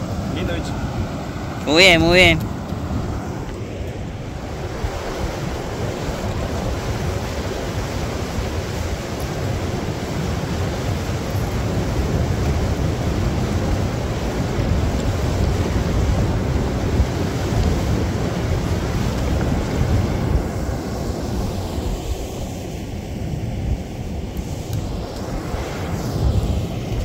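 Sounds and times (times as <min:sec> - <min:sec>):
water rushing over rocks: 0:00.0 - 0:22.5.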